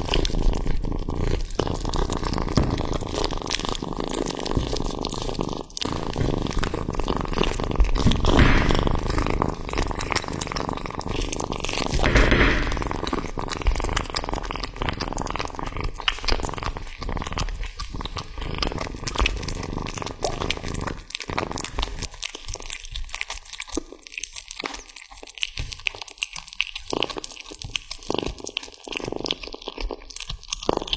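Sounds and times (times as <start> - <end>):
kitten chewing raw meat: 0.0 - 30.9.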